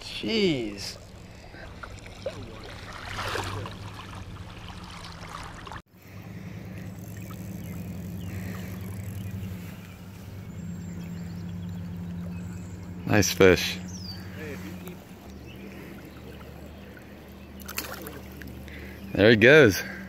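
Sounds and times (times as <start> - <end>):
water sloshing and splashing: 0.0 - 13.0, 14.2 - 19.0
steady low rumble: 0.8 - 19.2.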